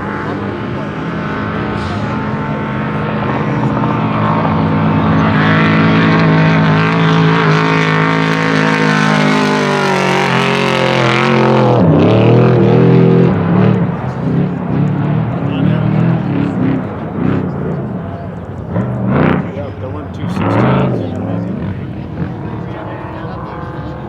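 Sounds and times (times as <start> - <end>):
truck engine at high revs: 0.0 - 24.0.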